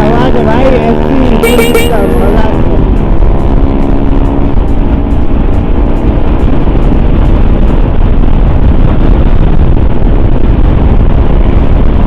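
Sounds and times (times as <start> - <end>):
motorcycle engine: 0.0 - 10.2
wind rumble on microphone: 0.0 - 12.0.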